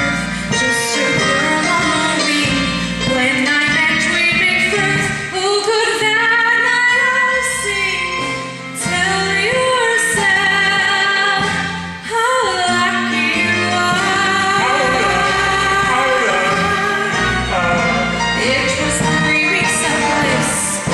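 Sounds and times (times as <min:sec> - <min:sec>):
woman singing: 0:00.0 - 0:17.5, 0:18.2 - 0:20.9
instrumental accompaniment: 0:00.0 - 0:20.9.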